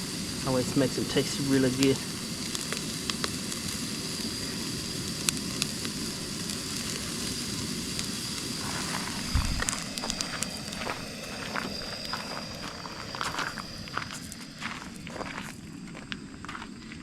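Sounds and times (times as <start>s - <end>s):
patties sizzling on a grill: 0.0s - 16.6s.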